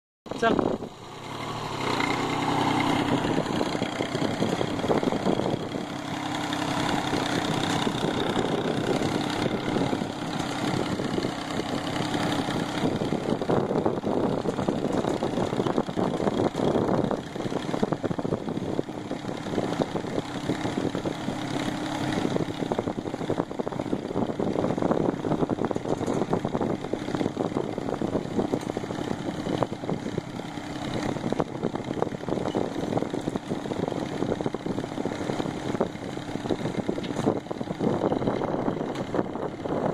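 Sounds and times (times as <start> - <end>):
tractor diesel engine running: 0.3 - 39.9.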